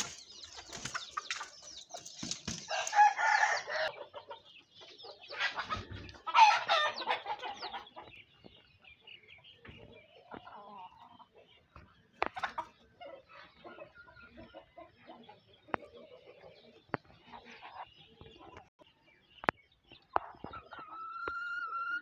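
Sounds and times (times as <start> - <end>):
hens clucking: 0.0 - 18.8, 20.0 - 22.0.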